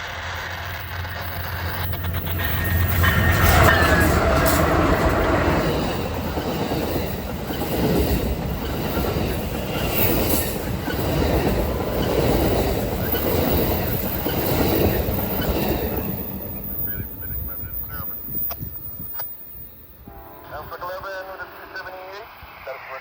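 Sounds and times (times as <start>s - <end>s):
steel wheels clattering over rails: 0.0s - 19.7s
train rumble: 0.0s - 23.0s.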